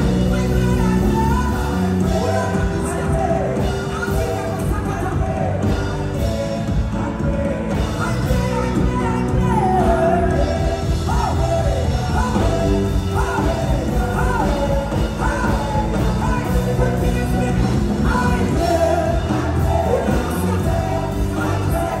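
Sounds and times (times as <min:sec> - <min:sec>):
women singing gospel song: 0:00.0 - 0:22.0.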